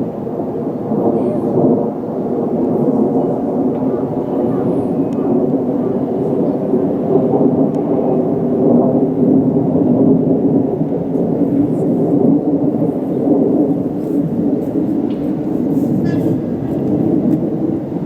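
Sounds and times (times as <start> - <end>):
diesel train low rumble: 0.0 - 18.0.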